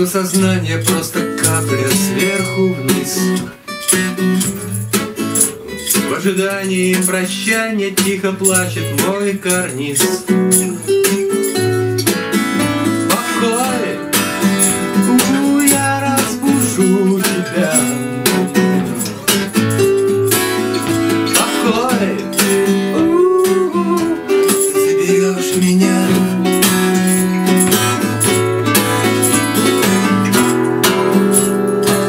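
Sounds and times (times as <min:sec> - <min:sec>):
acoustic guitars strummed and picked: 0:00.0 - 0:32.0
shaken hand percussion: 0:00.0 - 0:32.0.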